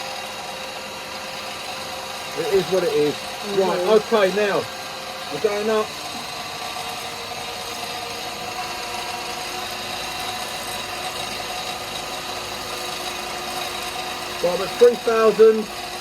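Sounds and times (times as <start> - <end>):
wood lathe whining: 0.0 - 16.0.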